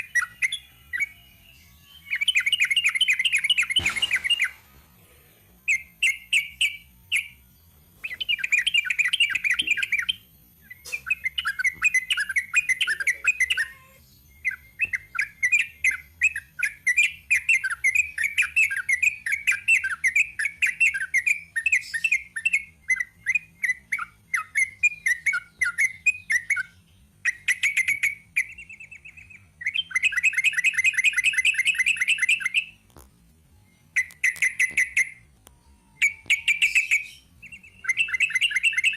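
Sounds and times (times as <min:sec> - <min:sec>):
bulbul chattering song: 0:01.9 - 0:04.8, 0:05.7 - 0:07.4, 0:08.0 - 0:32.8, 0:33.9 - 0:38.9.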